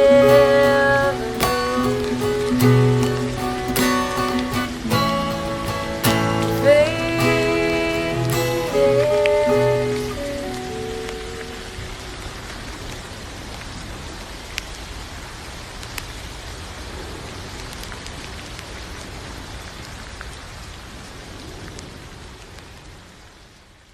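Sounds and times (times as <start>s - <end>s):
sharp raindrop impacts: 0.0s - 22.8s
steady rain hissing: 0.0s - 23.9s.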